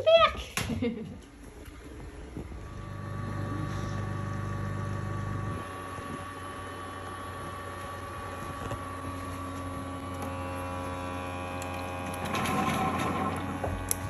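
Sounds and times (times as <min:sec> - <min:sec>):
pump and motor humming: 0:01.7 - 0:14.0.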